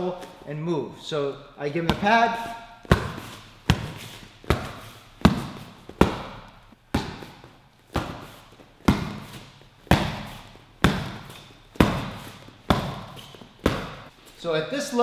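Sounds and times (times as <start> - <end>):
punches hitting focus mitts: 1.8 - 14.1.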